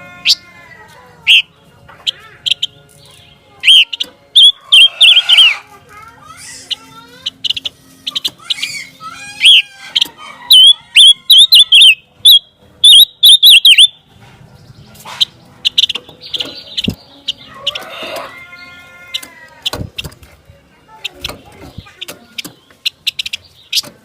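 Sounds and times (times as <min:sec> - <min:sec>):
songbird whistled chirps and trills: 0:01.2 - 0:05.6, 0:06.4 - 0:20.1, 0:20.9 - 0:24.0.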